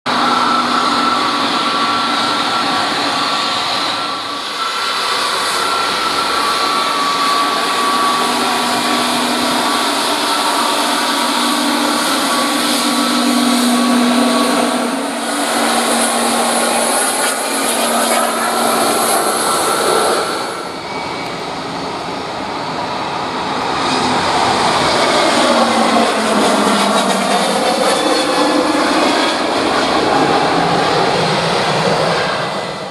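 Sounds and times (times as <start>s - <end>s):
high jet engine whine: 0.0s - 32.9s
jet engines roaring: 0.0s - 32.9s.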